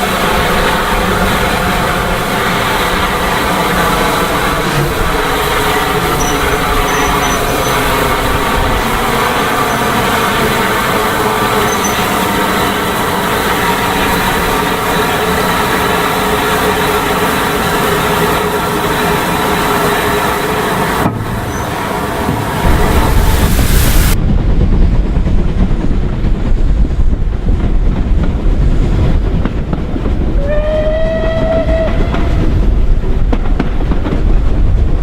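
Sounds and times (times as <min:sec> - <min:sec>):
train rumbling: 0:00.0 - 0:35.0.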